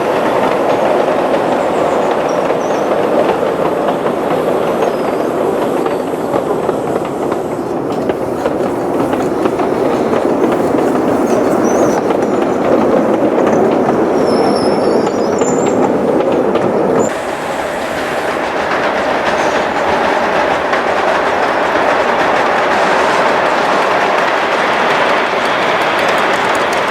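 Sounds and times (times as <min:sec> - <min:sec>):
model train wheels clattering: 0:00.3 - 0:26.9.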